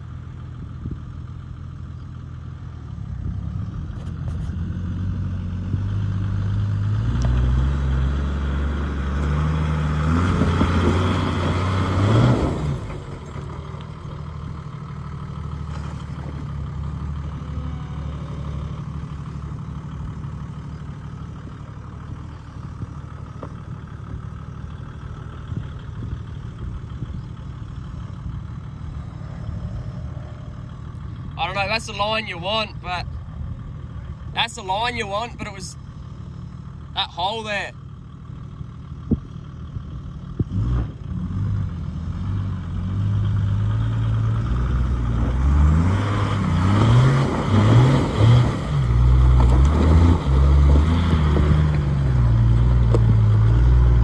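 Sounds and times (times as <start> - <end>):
truck engine under load: 0.0 - 54.0.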